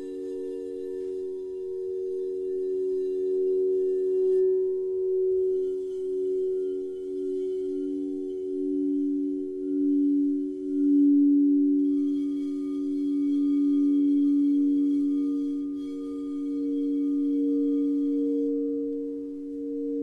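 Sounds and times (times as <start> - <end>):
singing bowl humming: 0.0 - 20.0.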